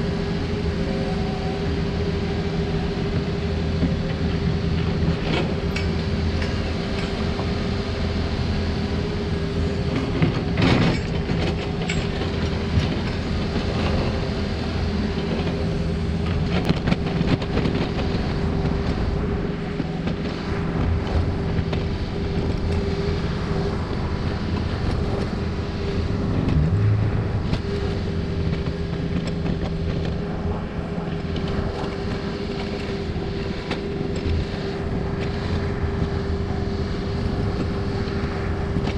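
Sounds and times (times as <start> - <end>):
excavator diesel engine whining: 0.0 - 38.9.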